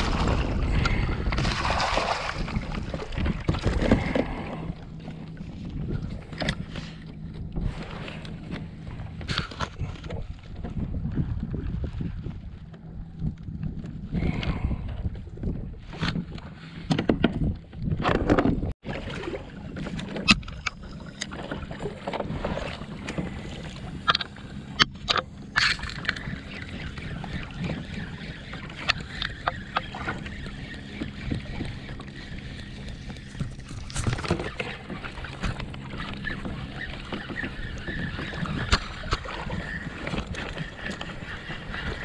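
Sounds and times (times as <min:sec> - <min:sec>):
water and wind background: 0:00.0 - 0:42.0.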